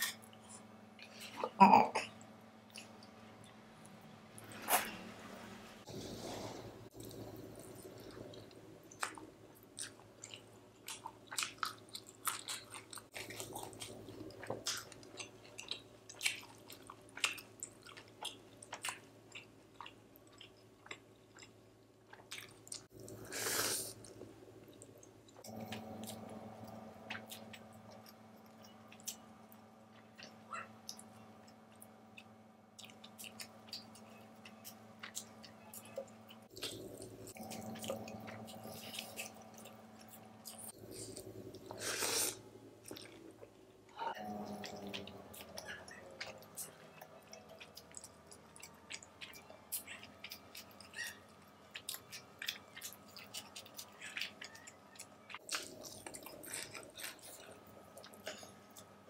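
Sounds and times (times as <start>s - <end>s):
faint steady hum: 0.0s - 59.0s
person chewing food: 6.4s - 59.0s.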